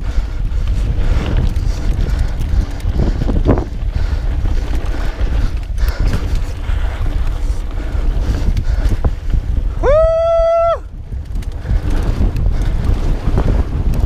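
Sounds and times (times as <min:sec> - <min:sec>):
mountain bike rattling downhill: 0:00.0 - 0:14.0
wind buffeting microphone: 0:00.0 - 0:14.0.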